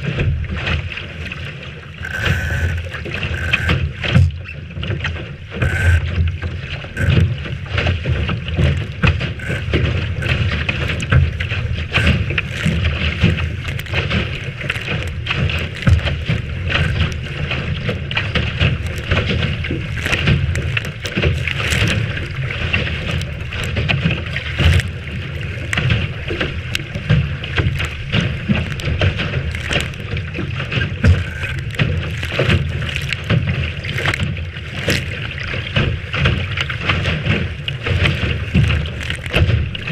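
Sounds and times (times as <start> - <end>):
water splashing against hull: 0.0 - 39.9.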